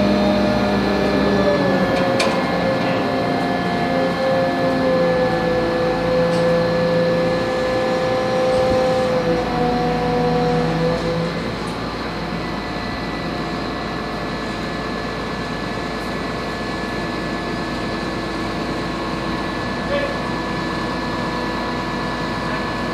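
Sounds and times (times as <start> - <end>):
crane engine and hydraulic hoist: 0.0 - 22.9.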